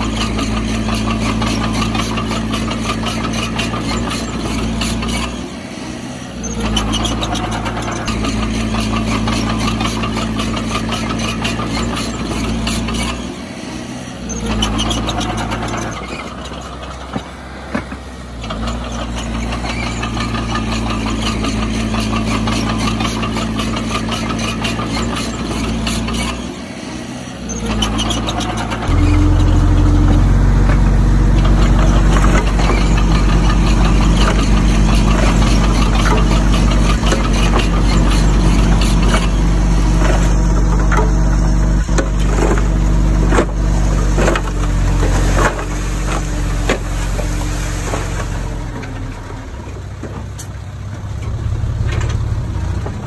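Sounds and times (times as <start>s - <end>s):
heavy diesel engine running: 0.0s - 53.0s
louder deeper engine: 0.0s - 53.0s.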